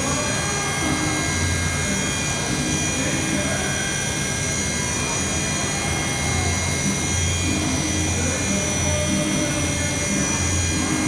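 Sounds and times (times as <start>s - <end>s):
cnc machine whine: 0.0s - 11.0s
low machine hum: 0.0s - 11.0s.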